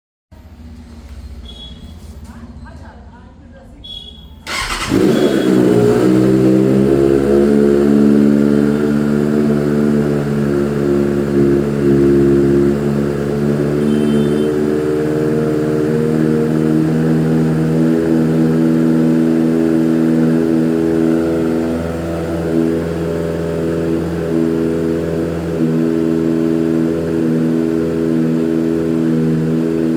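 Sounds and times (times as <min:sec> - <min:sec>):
motorcycle engine starting and idling: 0:04.4 - 0:29.9.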